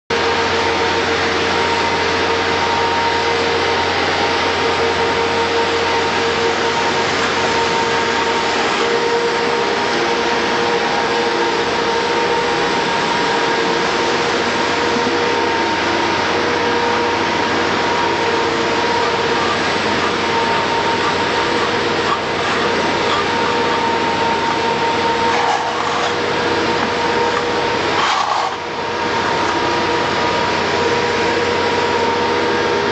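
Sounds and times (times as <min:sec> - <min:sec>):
machine whining steadily: 0:00.1 - 0:32.9.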